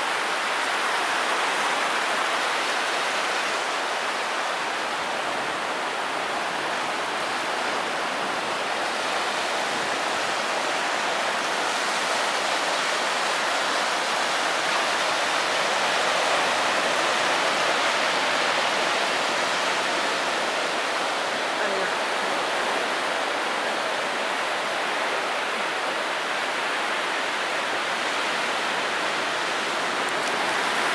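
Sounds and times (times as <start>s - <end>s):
ocean surf breaking on beach: 0.0s - 30.9s.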